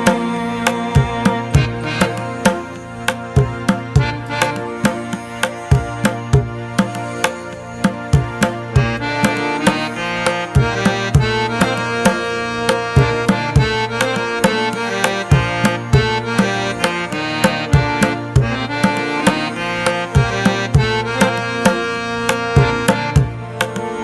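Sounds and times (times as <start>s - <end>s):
hand drums beating: 0.0s - 24.0s
melodic instrument: 0.0s - 24.0s.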